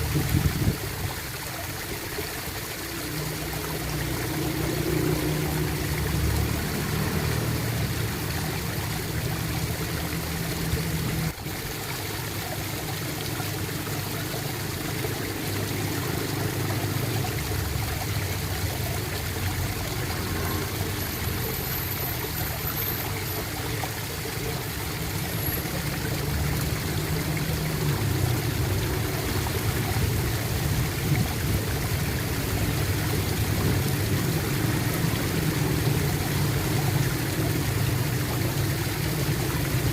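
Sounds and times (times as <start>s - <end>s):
water gurgling and flowing: 0.0s - 39.9s.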